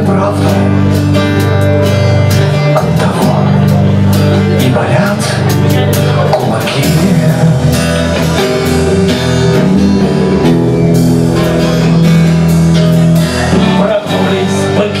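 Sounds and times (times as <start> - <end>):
acoustic guitar strumming: 0.0 - 15.0
drums: 0.0 - 15.0.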